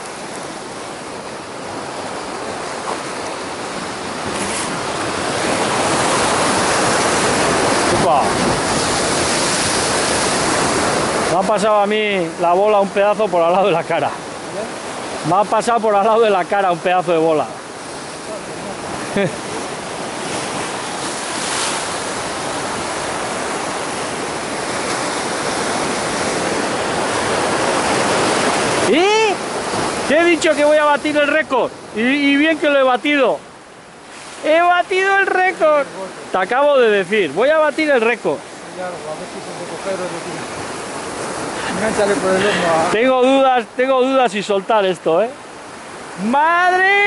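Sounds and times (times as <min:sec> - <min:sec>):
surf breaking among boulders: 0:00.0 - 0:47.0.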